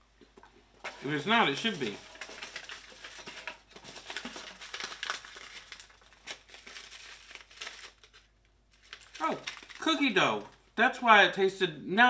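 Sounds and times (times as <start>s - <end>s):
plastic wrappers rustling: 0.7s - 10.8s.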